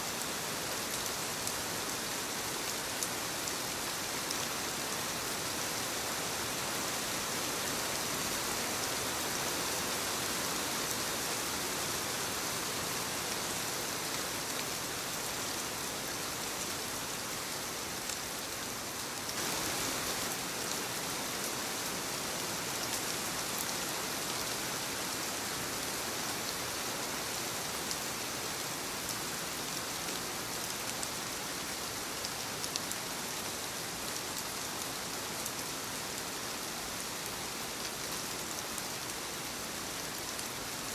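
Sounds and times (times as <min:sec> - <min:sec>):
soft rain on leaves: 0:00.0 - 0:40.9.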